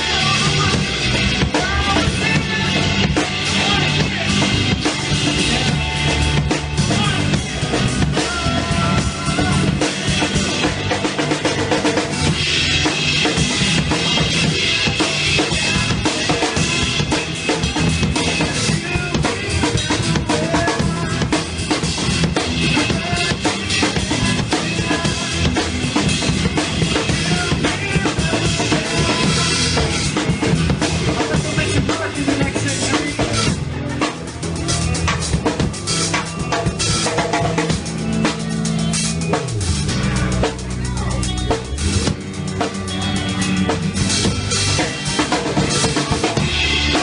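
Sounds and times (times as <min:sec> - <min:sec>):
drum kit rock beat: 0:00.0 - 0:47.0
recorded band music: 0:00.0 - 0:47.0.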